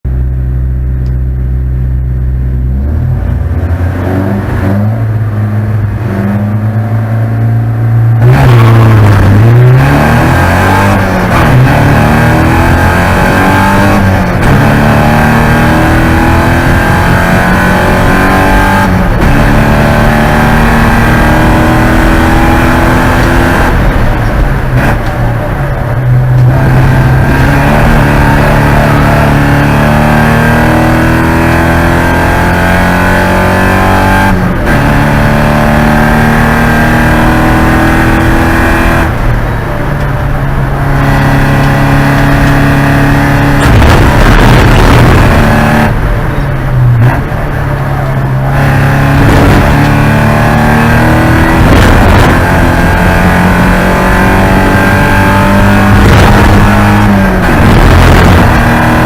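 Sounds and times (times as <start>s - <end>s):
race car engine revving: 2.4s - 59.0s.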